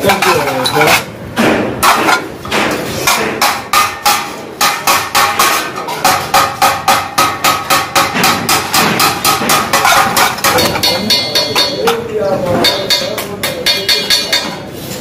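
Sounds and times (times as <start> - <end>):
rapid hammering on metal: 0.0 - 14.7.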